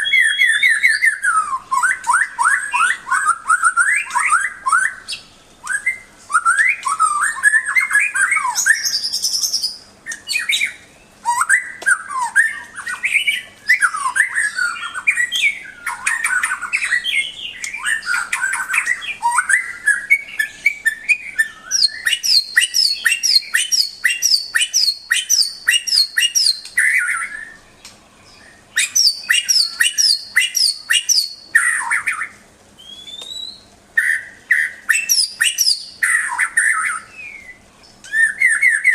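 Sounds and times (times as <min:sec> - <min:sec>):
songbird singing whistled phrases: 0:00.0 - 0:38.9.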